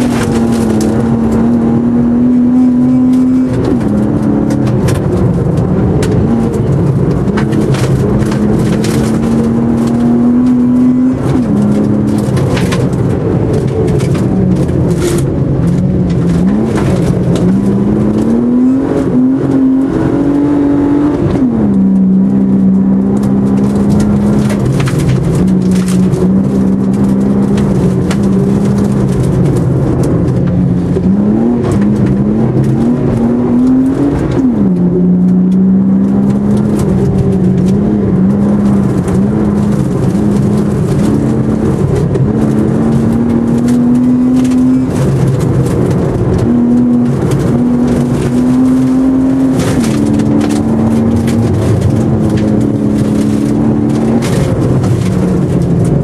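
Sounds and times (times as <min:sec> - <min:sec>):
car engine revving under load: 0:00.0 - 0:56.0
knocks and clatter: 0:03.0 - 0:20.4, 0:21.2 - 0:56.0.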